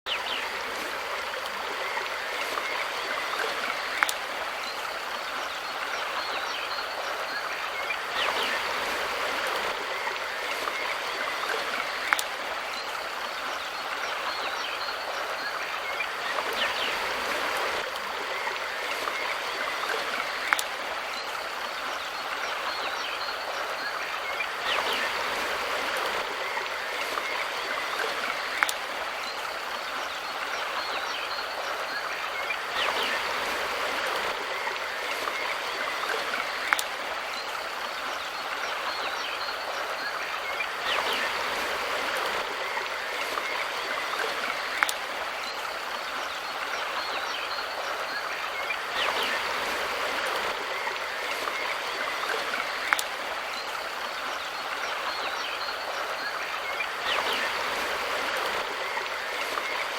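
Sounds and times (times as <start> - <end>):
river rushing over rocks: 0.1 - 59.9.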